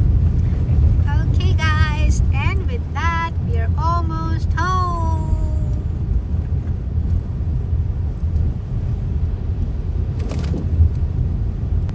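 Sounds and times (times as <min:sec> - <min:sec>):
car cabin rumble: 0:00.0 - 0:11.9.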